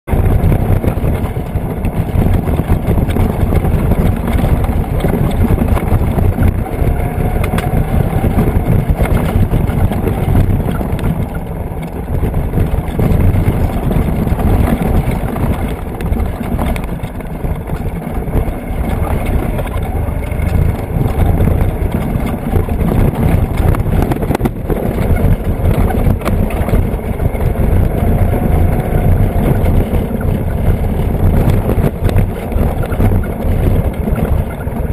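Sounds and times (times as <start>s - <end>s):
vehicle engine and road rumble: 0.0s - 34.9s
wind on microphone: 0.0s - 34.9s.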